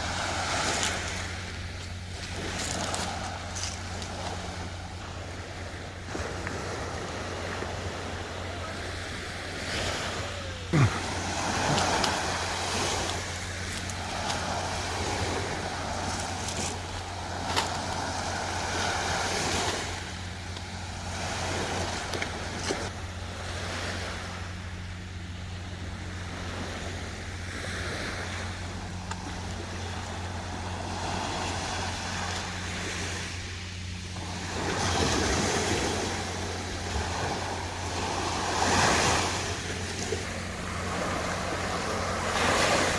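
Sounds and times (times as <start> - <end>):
sea waves washing ashore: 0.0 - 42.9
steady low hum: 0.0 - 42.9.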